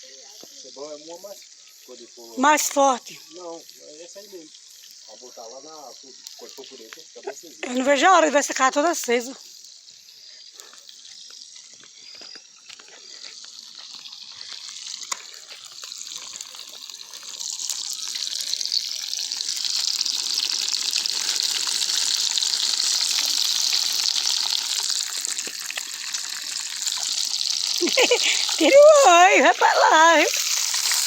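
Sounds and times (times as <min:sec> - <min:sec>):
bonfire crackling: 0:00.2 - 0:31.0.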